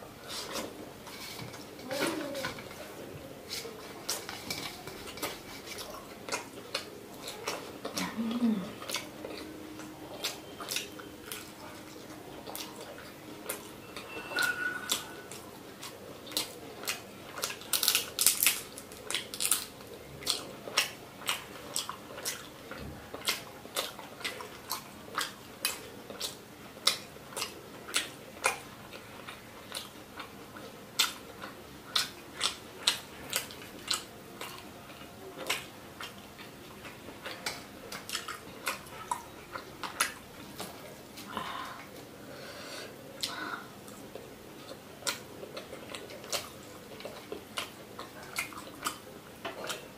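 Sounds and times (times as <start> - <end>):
crunchy chewing: 0.2 - 42.2, 42.8 - 49.9.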